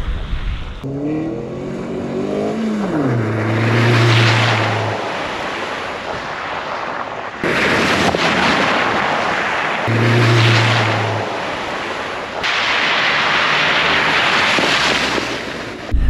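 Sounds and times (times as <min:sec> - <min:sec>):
off-road vehicle engine: 0:00.0 - 0:16.0
tyre spray and wind rush: 0:02.0 - 0:16.0.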